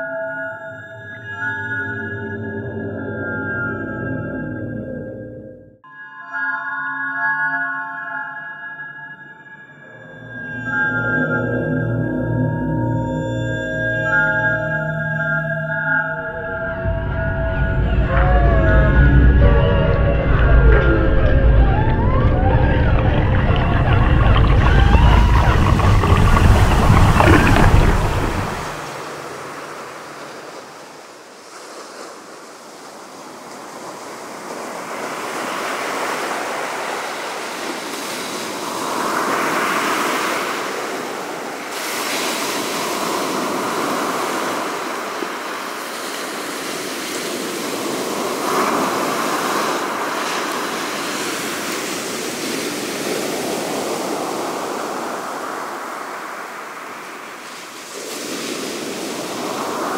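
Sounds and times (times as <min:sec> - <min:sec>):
sea waves washing in: 0:10.2 - 0:59.9.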